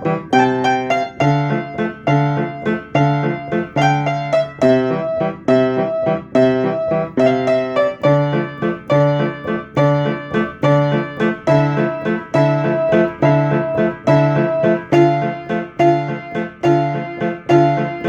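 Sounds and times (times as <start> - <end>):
piano playing a repeating riff: 0.0 - 18.0.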